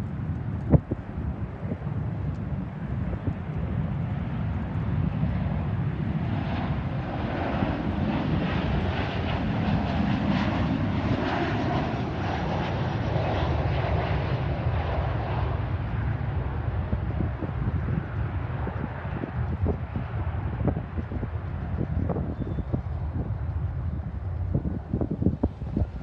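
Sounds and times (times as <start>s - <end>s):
jet airliner engines passing: 0.0s - 26.0s.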